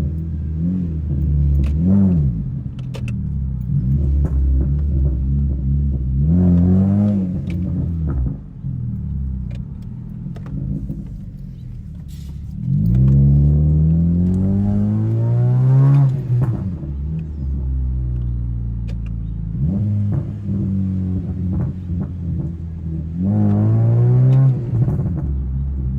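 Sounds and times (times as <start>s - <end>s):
car engine accelerating: 0.0s - 25.9s
exhaust pops and crackles: 1.0s - 25.9s.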